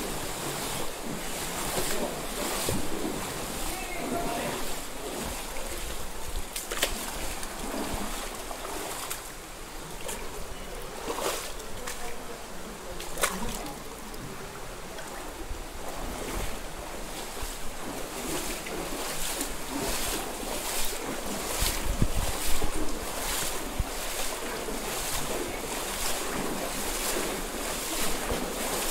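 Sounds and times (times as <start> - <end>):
feet wading splashes: 0.0 - 28.9
stream flowing over stones: 0.0 - 28.9.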